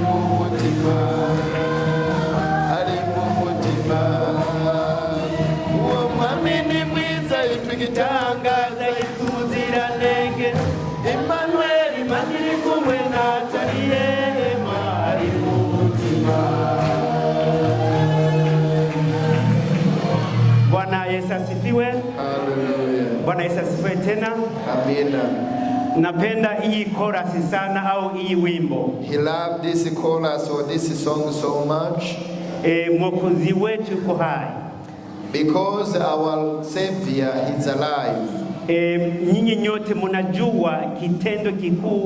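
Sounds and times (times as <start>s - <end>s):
choir singing gospel: 0.0s - 42.0s.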